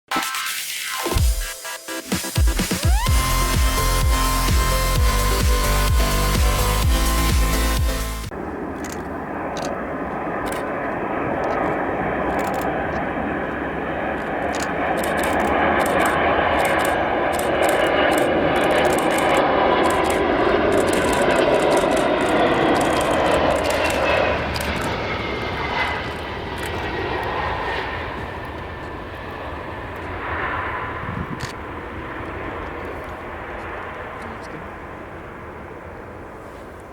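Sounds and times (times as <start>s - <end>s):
jet engine whine: 0.1s - 36.9s
jet engines on landing: 0.1s - 36.9s.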